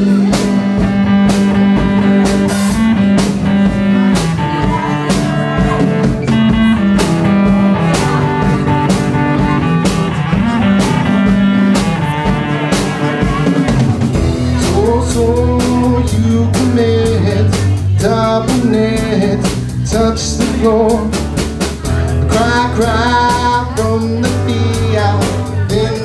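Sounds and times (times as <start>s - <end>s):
amplified guitar: 0.0s - 26.0s
drum kit beat: 0.0s - 26.0s.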